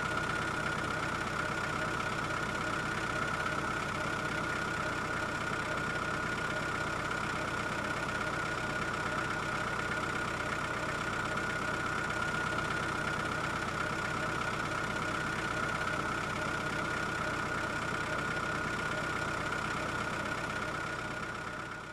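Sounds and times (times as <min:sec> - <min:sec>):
engine idling: 0:00.0 - 0:21.9.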